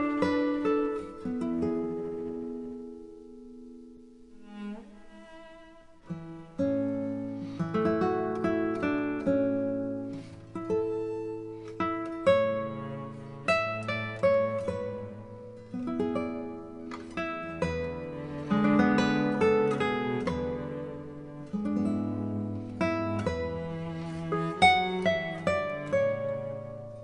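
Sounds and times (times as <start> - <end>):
acoustic guitar: 0.0 - 27.0.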